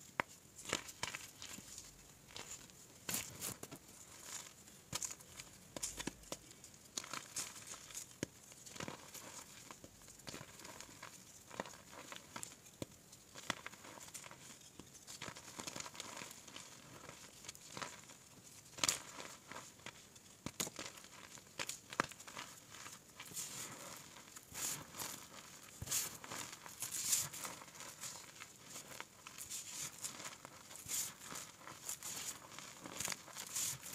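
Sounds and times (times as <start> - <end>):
hands crushing chalk block: 0.2 - 18.1, 18.7 - 33.9.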